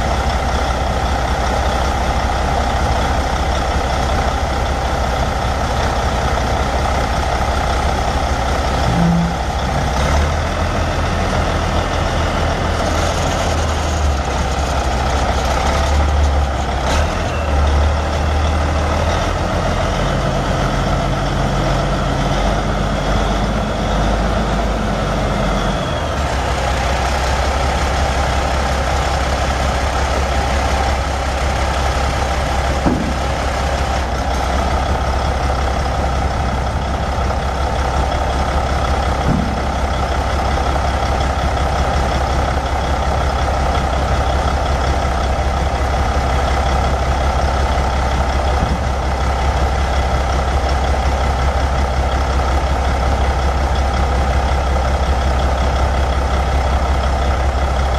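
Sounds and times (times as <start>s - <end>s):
diesel truck engine idling: 0.0s - 57.9s.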